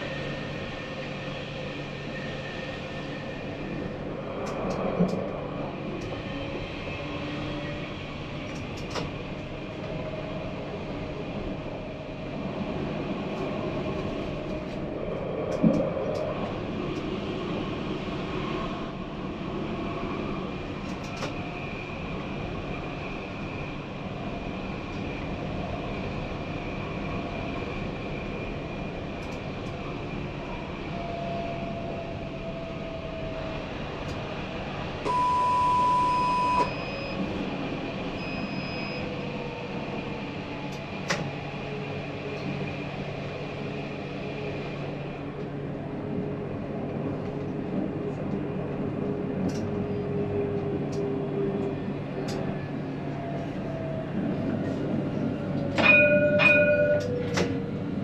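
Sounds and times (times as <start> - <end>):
tram rumbling along track: 0.0 - 58.0.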